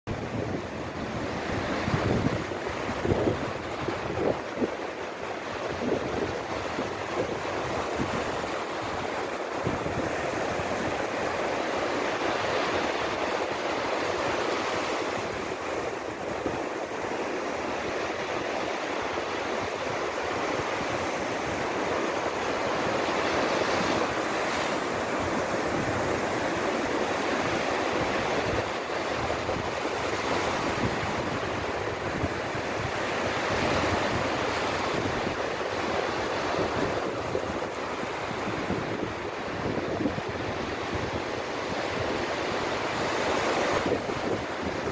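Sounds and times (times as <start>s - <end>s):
small waves breaking on beach: 0.1s - 44.9s.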